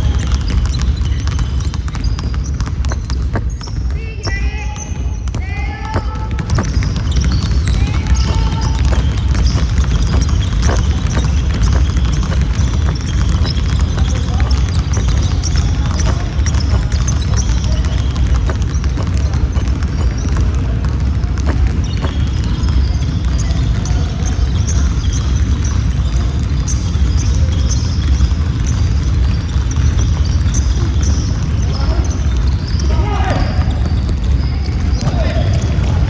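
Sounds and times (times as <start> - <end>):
basketball bouncing: 0.0 - 36.0
players' voices: 0.0 - 36.0
shoe squeaks on court: 0.0 - 36.0.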